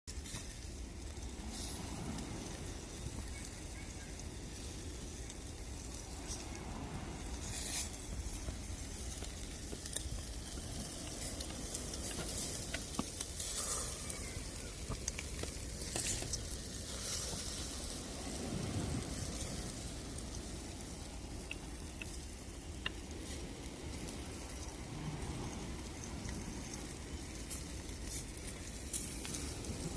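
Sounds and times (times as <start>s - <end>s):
meat sizzling on a grill: 0.1s - 29.9s.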